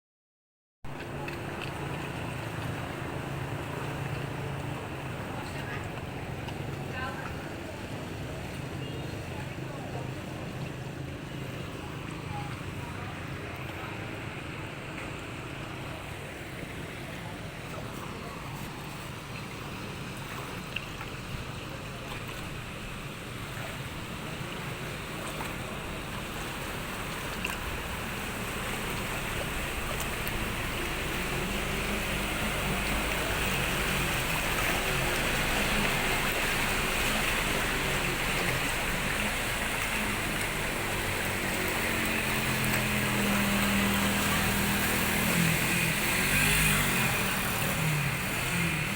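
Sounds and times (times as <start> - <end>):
rushing water: 0.9 - 48.9.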